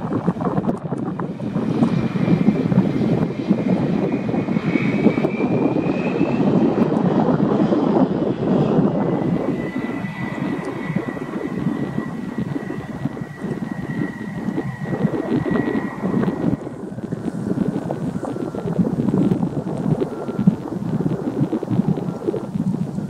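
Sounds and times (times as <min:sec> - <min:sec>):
jet engines roaring and whining: 0:00.0 - 0:23.0.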